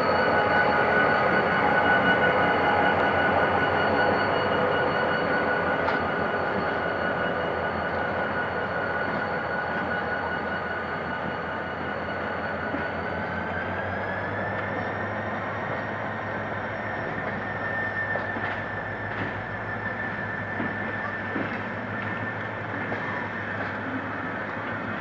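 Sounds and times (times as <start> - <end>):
train coaches rolling on rails: 0.0 - 25.0.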